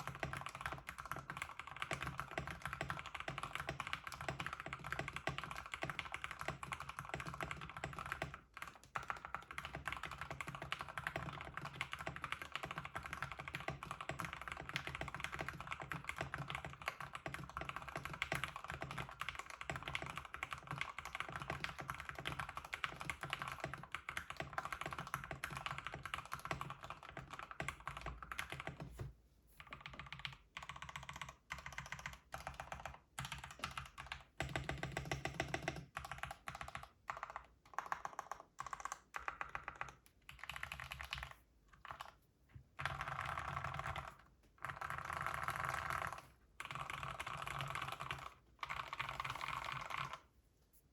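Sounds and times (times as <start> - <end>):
typing on mechanical keyboard: 0.0 - 29.0, 29.6 - 50.3.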